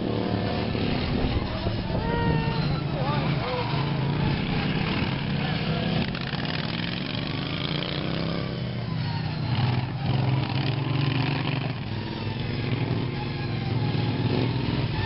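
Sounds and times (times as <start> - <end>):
racing lawn mower engines: 0.0 - 15.0.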